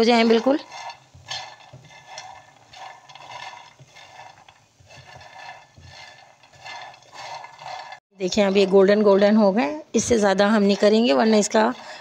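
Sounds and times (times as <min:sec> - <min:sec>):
spatula stirring seeds in a pan: 0:00.0 - 0:12.0.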